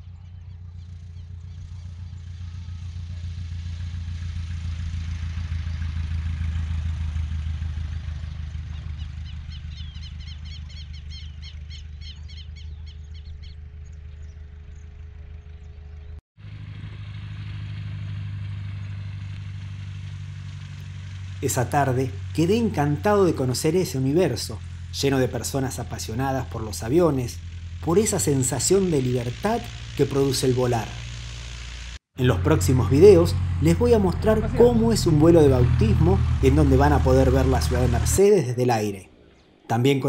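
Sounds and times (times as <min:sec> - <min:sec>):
light plane engine drone: 0:00.0 - 0:40.0.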